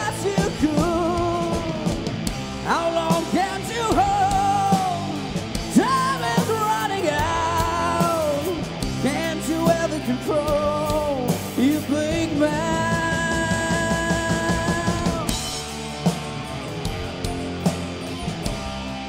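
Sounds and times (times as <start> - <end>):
bending lead guitar line: 0.0 - 19.0
live rock band playing: 0.0 - 19.0.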